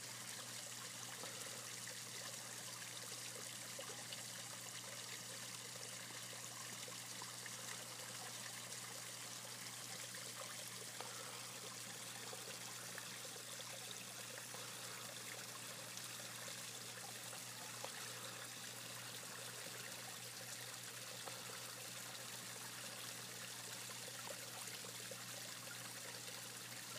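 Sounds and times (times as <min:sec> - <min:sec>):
water trickling into pond: 0:00.0 - 0:26.9.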